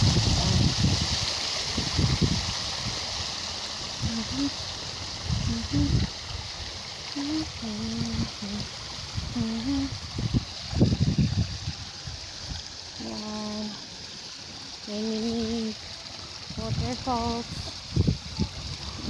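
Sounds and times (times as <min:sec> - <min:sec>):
water trickling over stones: 0:00.0 - 0:19.0.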